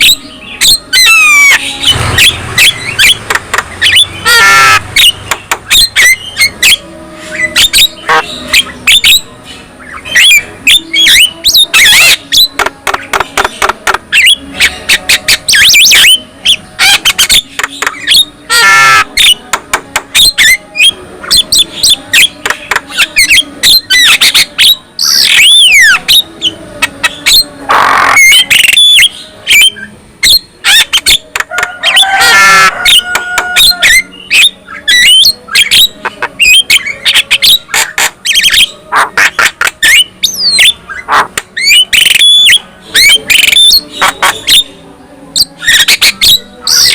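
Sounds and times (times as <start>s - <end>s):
myna singing harsh squawks: 0.0s - 46.9s.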